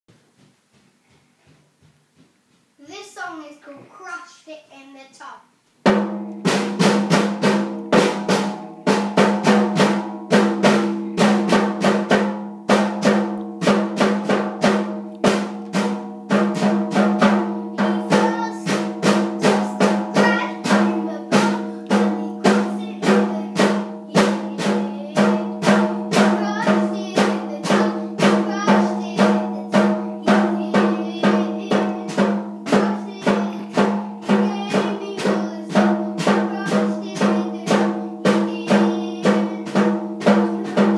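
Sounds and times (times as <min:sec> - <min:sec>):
toy drum kit played fast: 0:05.8 - 0:40.9.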